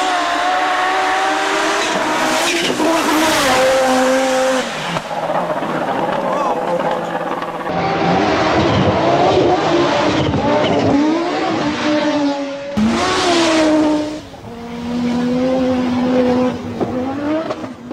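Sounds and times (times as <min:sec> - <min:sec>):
rally car engine revving: 0:00.0 - 0:17.9.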